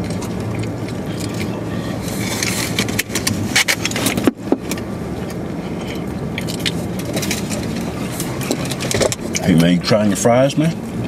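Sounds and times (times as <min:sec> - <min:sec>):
burger being chewed: 0:00.0 - 0:10.7
steady low hum: 0:00.0 - 0:11.0.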